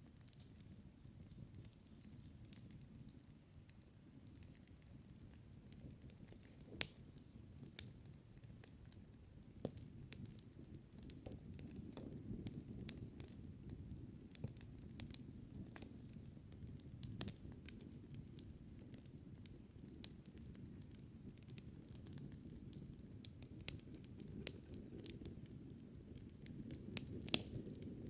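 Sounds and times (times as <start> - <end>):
campfire crackling and popping: 0.0 - 28.0
low rumble of flame: 0.0 - 28.0.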